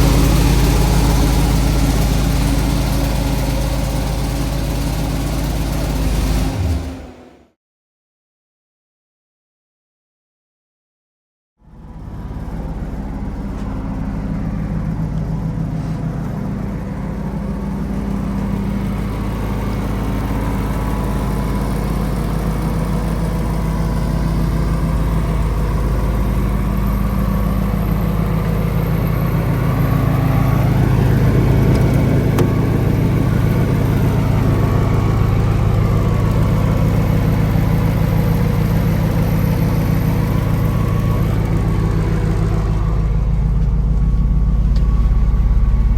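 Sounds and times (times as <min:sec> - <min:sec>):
diesel engine running: 0:00.0 - 0:07.6, 0:11.6 - 0:45.9.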